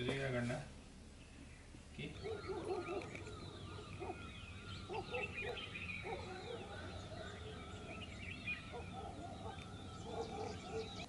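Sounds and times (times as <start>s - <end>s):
birds chirping and twittering: 0.0s - 11.0s
low short bird calls: 1.1s - 11.0s.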